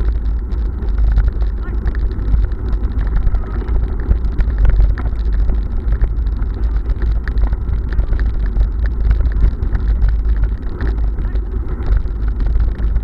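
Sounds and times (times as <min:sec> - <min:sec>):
bicycle rumbling over cobblestones: 0:00.0 - 0:13.0.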